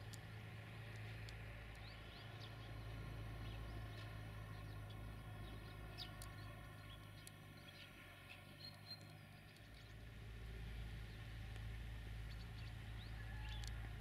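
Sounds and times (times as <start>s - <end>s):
low hum: 0.0s - 14.0s
small birds chirping: 0.0s - 14.0s.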